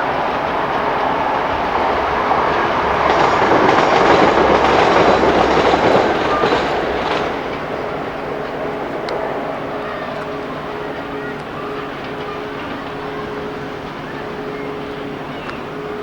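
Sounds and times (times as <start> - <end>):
diesel locomotive passing: 0.0 - 16.0
wagon wheels clattering: 0.0 - 16.0.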